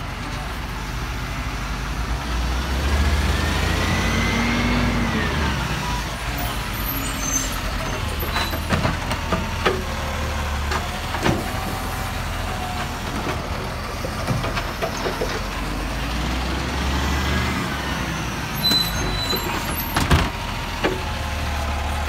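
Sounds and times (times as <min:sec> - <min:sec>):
garbage truck diesel engine: 0:00.0 - 0:22.0.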